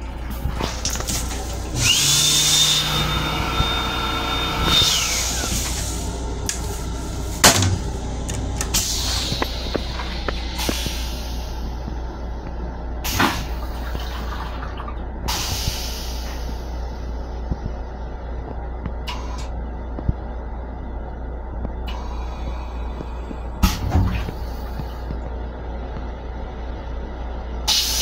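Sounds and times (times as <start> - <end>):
railcar running rumble: 3.8 - 28.0.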